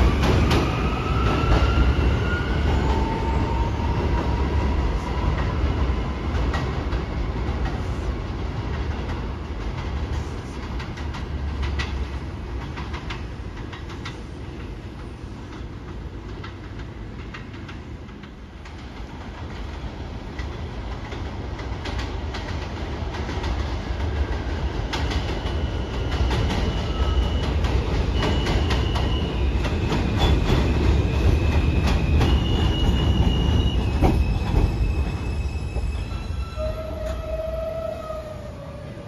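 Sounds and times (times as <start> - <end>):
subway train rumble: 0.0 - 39.0.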